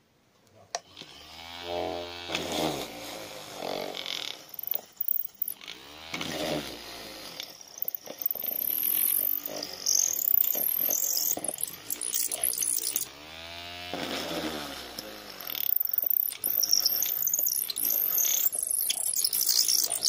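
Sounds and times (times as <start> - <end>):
electric drill boring into wood: 1.0 - 20.0.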